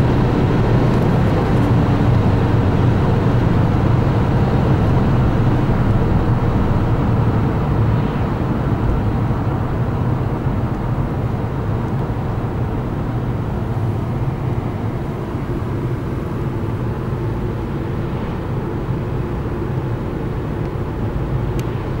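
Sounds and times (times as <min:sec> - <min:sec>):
diesel car engine accelerating: 0:00.0 - 0:22.0.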